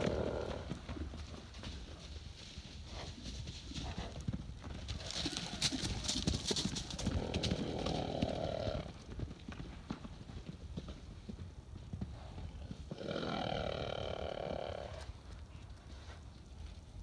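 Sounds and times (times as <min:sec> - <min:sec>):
hooves pounding dirt: 0:00.0 - 0:17.0.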